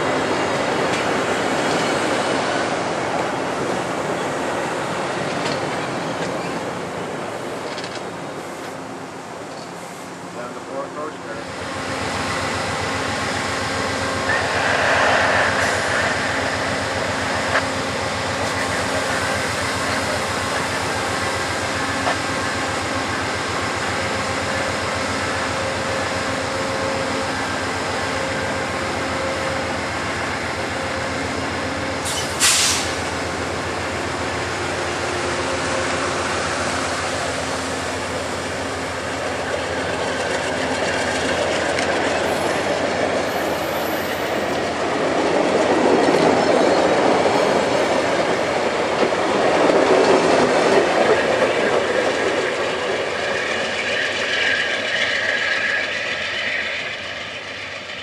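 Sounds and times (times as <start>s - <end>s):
passing train rumble: 0.0s - 58.0s.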